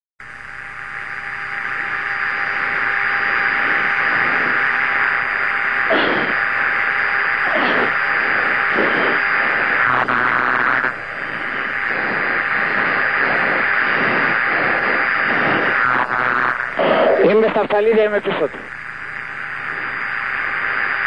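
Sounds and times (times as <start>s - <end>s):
radio hiss and static: 0.2s - 21.0s
radio click: 1.8s - 21.0s.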